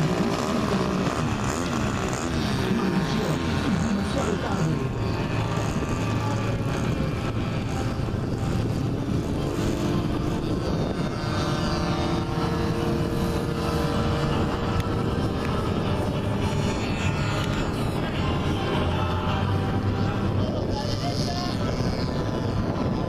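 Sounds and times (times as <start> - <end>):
model aircraft engine running: 0.0 - 23.0.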